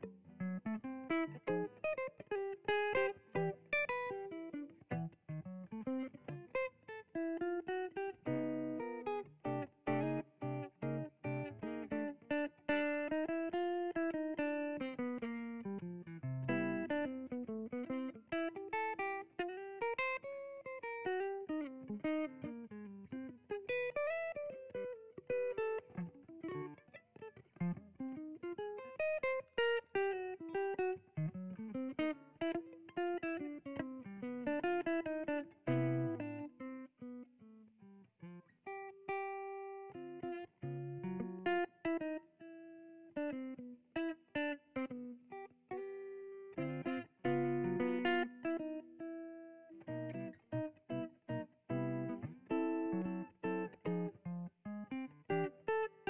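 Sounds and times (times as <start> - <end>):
solo jazz guitar: 0.0 - 56.0.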